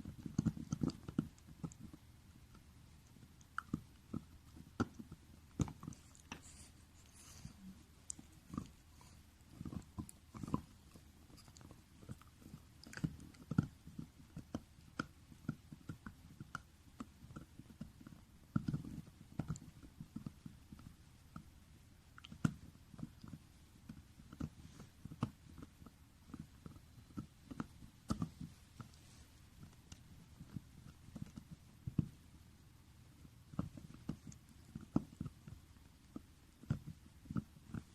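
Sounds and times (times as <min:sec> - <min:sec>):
dog gnawing on chew toy: 0:00.0 - 0:21.5, 0:22.2 - 0:32.2, 0:33.1 - 0:37.9.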